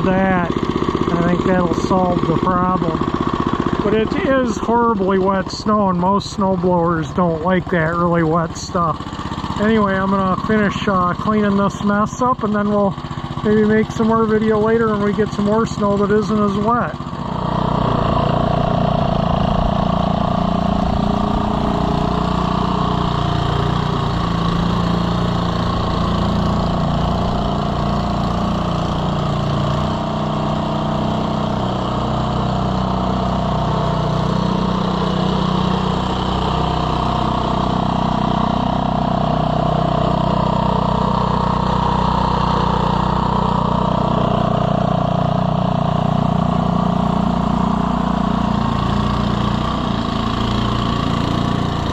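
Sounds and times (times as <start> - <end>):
snowblower engine running: 0.0 - 51.9.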